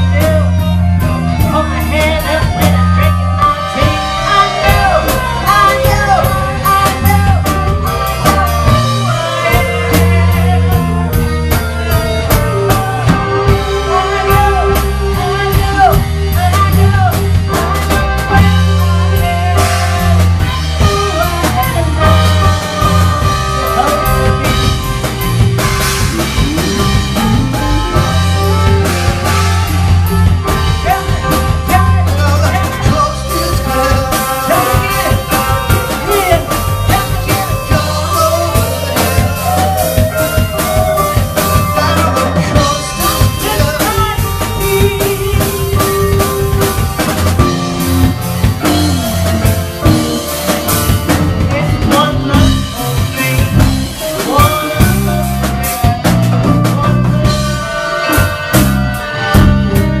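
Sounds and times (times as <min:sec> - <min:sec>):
live band playing: 0:00.0 - 1:00.0.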